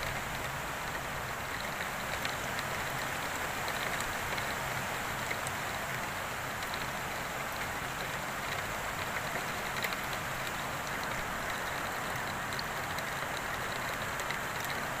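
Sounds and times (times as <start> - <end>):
heavy rain falling: 0.0 - 15.0
ticks of raindrops: 0.0 - 15.0.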